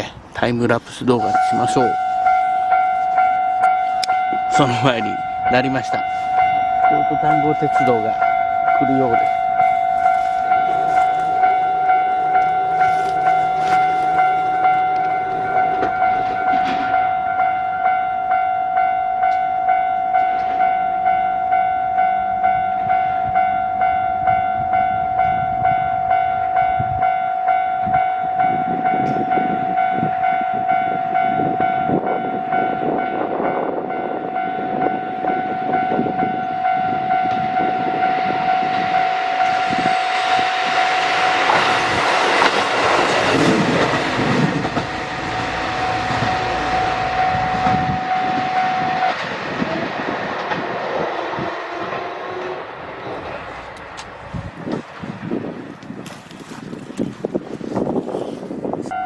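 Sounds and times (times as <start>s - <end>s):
level-crossing warning bell: 0.0s - 59.0s
train passing: 0.0s - 59.0s.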